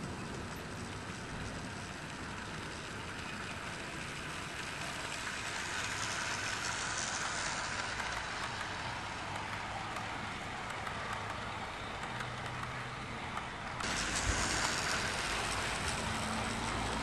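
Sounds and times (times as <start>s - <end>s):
model train motor whirring: 0.0s - 17.0s
wheels clicking over rails: 0.0s - 17.0s.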